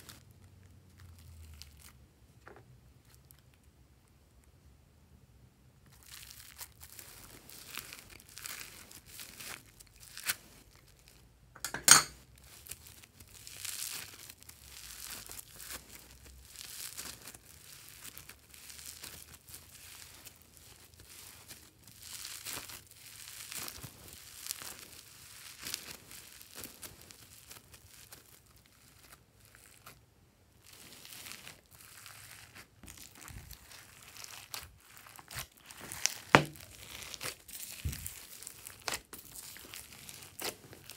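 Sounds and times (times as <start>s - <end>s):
foam-bead slime crackling: 0.0s - 2.0s, 5.8s - 11.3s, 12.2s - 40.9s.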